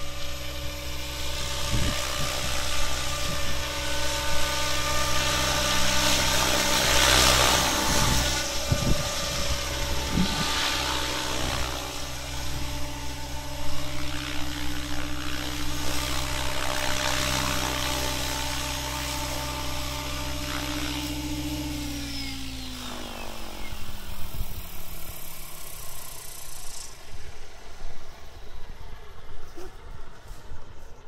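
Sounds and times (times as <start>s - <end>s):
rc helicopter rotor whine: 0.0s - 31.0s.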